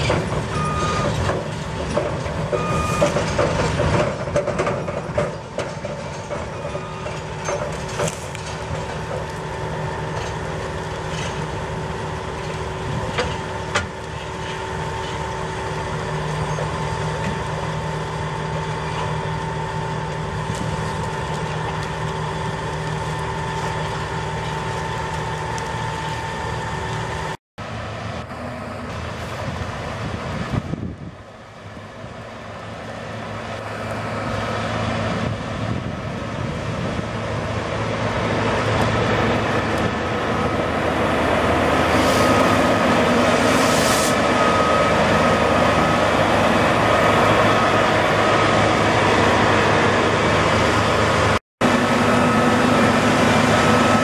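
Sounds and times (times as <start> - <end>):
harvester mechanical whine: 0.0 - 54.0.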